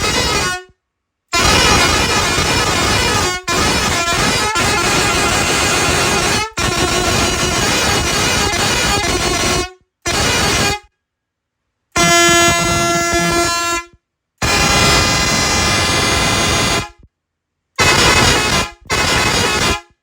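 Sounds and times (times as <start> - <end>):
truck air horn blasts: 0.0 - 0.7, 1.3 - 10.9, 12.0 - 17.0, 17.8 - 20.0.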